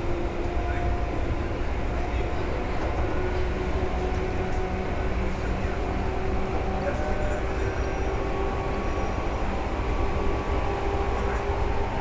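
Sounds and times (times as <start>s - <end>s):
train motor hum: 0.0s - 12.0s
train wheels rumbling on rail: 0.0s - 12.0s.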